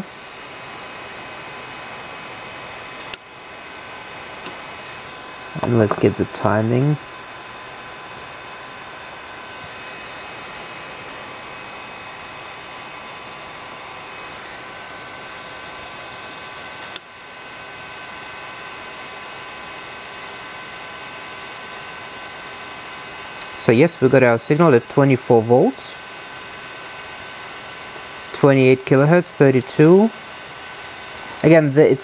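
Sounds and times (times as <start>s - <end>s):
small cooling fan running: 0.0s - 32.0s.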